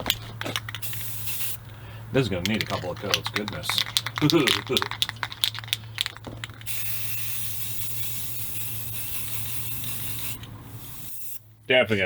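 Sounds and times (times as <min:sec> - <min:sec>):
spray paint can hissing: 0:00.0 - 0:01.7, 0:02.4 - 0:11.4.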